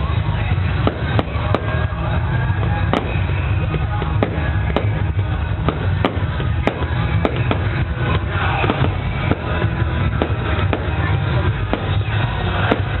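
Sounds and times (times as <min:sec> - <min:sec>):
loud music with heavy bass: 0:00.0 - 0:13.0
fireworks popping and banging: 0:00.1 - 0:13.0.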